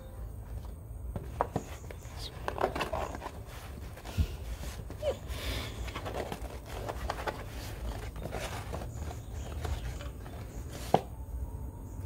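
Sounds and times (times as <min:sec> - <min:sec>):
paper rustling and scraping: 0:00.4 - 0:11.1.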